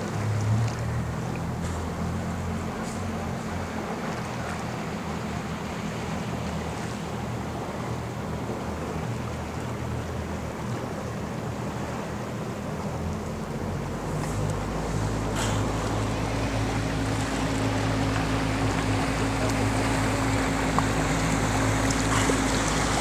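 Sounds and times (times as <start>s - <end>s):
choppy water: 0.0s - 23.0s.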